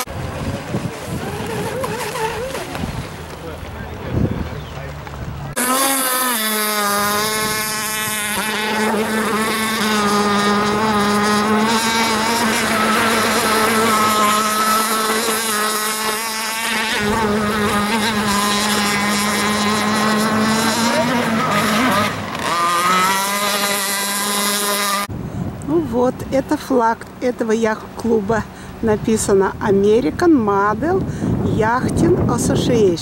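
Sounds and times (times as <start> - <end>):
model speedboat motor whine: 0.0 - 32.2.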